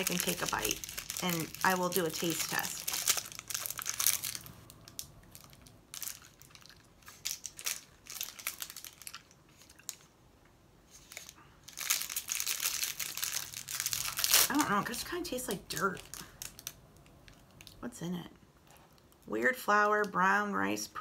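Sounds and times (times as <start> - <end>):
wrapper crinkling: 0.0 - 10.1, 10.9 - 17.8.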